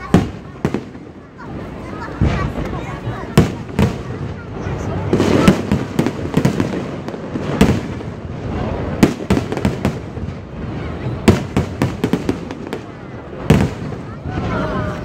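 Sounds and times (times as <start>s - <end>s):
crackling firework reports: 0.0s - 15.0s.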